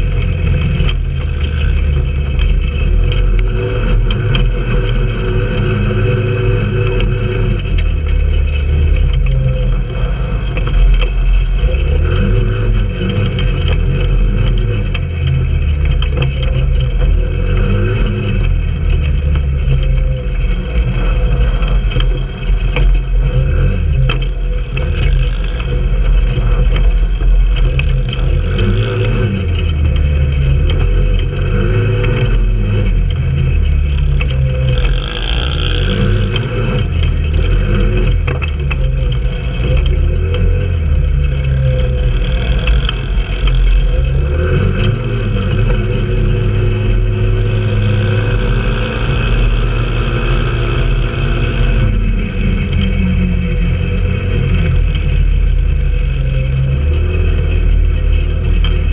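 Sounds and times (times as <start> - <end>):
go-kart engine revving: 0.0 - 58.9
heavy steady rumble: 0.0 - 58.9.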